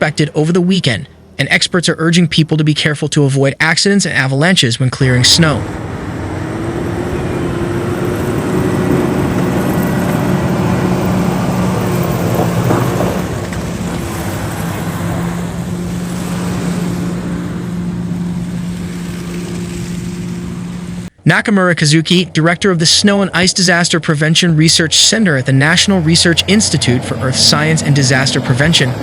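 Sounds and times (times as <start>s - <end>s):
road noise: 0.0s - 29.0s
vehicle engine humming: 0.0s - 29.0s.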